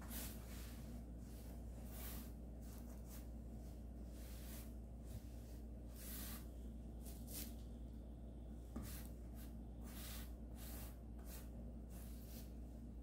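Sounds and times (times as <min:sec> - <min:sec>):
brush swishing on canvas: 0:00.0 - 0:07.6, 0:08.7 - 0:12.9
faint low hum: 0:00.0 - 0:13.0.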